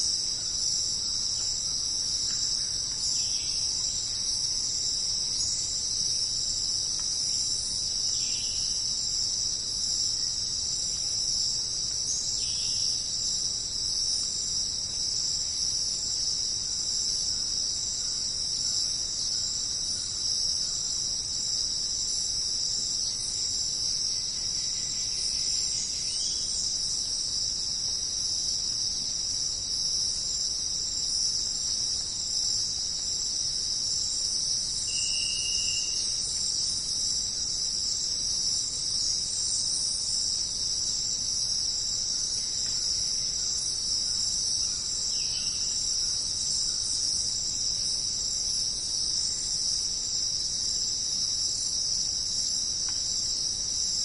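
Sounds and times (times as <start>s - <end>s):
insect chorus trilling: 0.0s - 54.0s.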